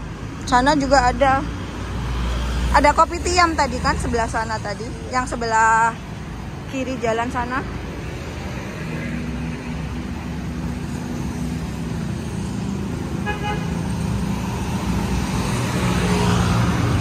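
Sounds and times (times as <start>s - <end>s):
passing motorbikes and cars: 0.0s - 17.0s.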